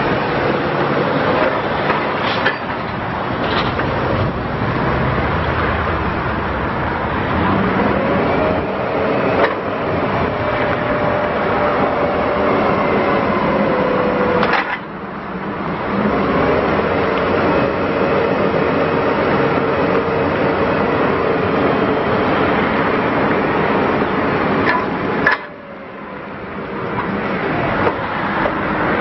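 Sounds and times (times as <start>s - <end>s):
forklift engine running: 0.0s - 29.0s
forklift mast whine: 0.0s - 29.0s.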